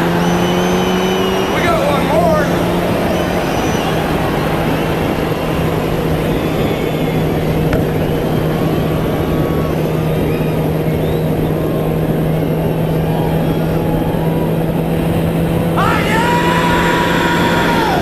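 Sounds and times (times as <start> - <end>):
road and wind noise: 0.0 - 18.0
vehicle engine hum: 0.0 - 18.0.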